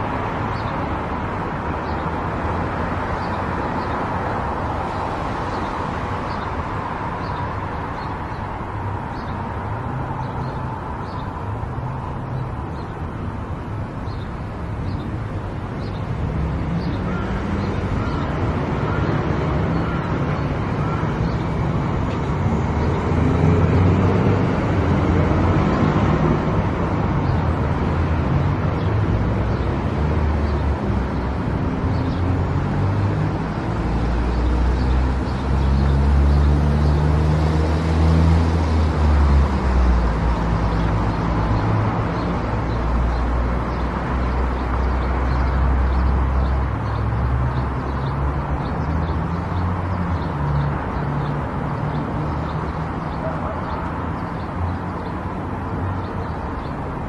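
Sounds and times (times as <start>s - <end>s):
tyre and road noise: 0.0s - 57.0s.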